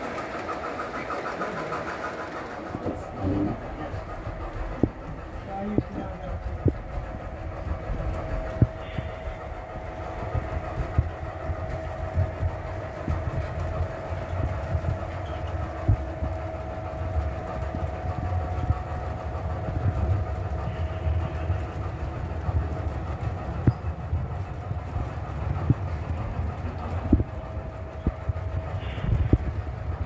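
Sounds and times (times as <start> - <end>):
model train wheels clicking on rails: 0.0 - 30.0.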